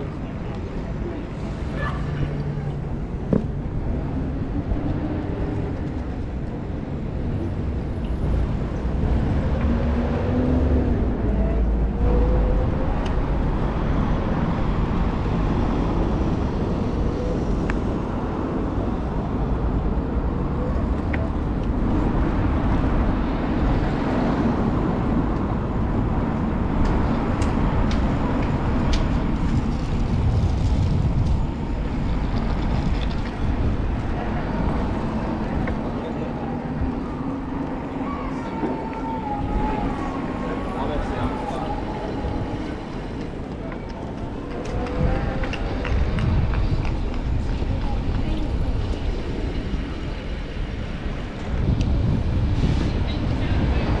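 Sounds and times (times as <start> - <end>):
passing vehicles: 0.0 - 54.0
street traffic rumble: 0.0 - 54.0.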